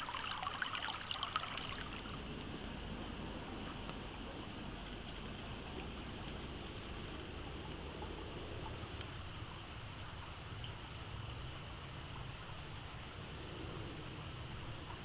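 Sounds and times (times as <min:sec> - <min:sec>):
insect chirping: 0:00.0 - 0:02.8, 0:04.2 - 0:15.0
steady low hiss: 0:00.0 - 0:15.0.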